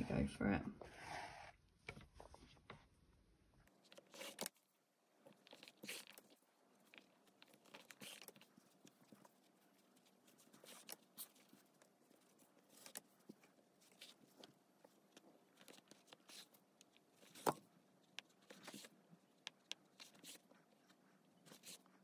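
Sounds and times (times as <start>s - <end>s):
hands handling stuffed toy: 3.7s - 22.0s
yarn rustling through stitches: 3.7s - 22.0s.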